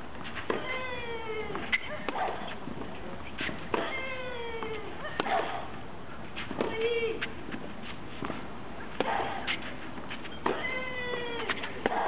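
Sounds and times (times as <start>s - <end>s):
racket hitting tennis ball: 0.2s - 12.0s.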